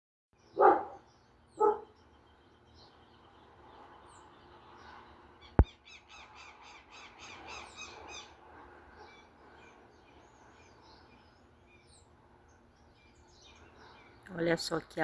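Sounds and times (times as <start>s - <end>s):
bird chirping: 0.4s - 15.0s.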